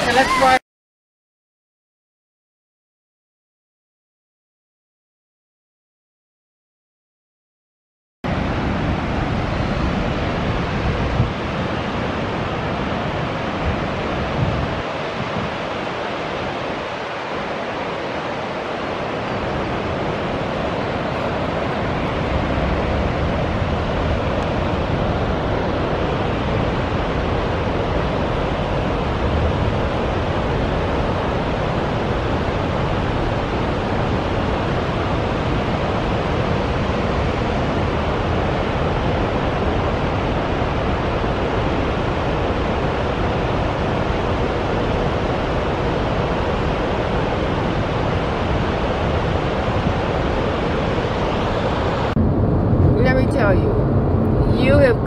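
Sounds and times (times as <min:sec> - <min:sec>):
water roaring through spillway: 0:00.0 - 0:00.6, 0:08.3 - 0:55.0.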